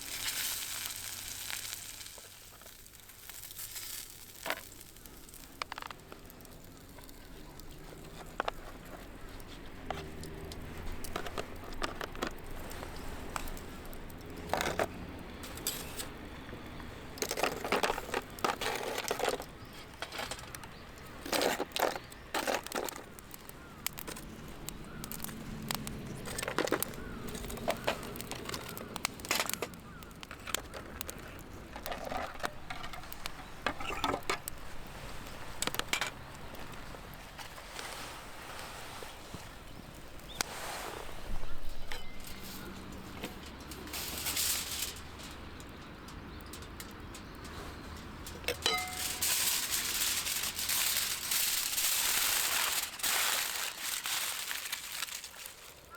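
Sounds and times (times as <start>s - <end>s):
wood fire crackling and popping: 0.0s - 40.6s, 41.2s - 55.9s.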